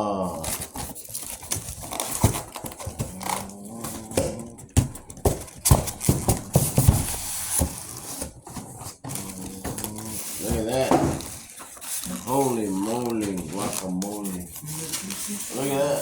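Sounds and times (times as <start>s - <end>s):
packaging knocks and clicks: 0.4s - 15.2s.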